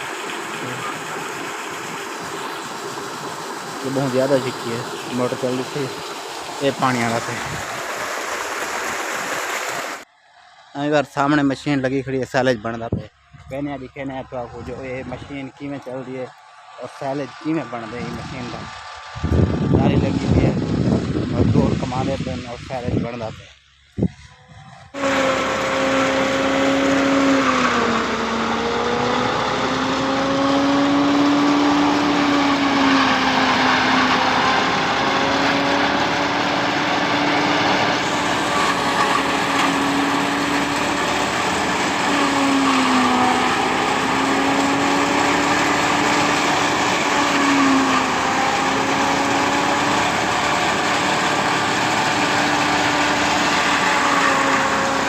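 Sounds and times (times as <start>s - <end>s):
silage machine running: 0.0s - 55.0s.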